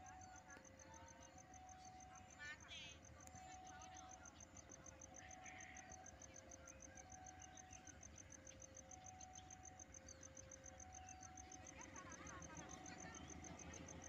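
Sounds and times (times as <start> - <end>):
insect chirping: 0.0 - 14.0
level crossing warning alarm: 0.0 - 14.0.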